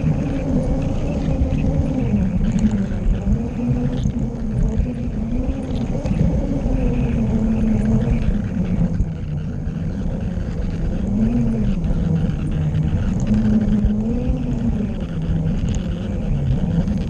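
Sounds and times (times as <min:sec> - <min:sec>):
wheels rumbling on plastic track: 0:00.0 - 0:17.0.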